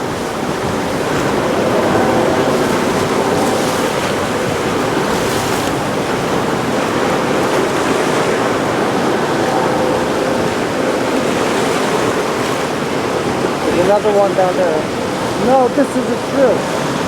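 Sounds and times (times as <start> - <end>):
helicopter rotor and engine noise: 0.0 - 17.0
wind buffeting microphone: 0.0 - 17.0.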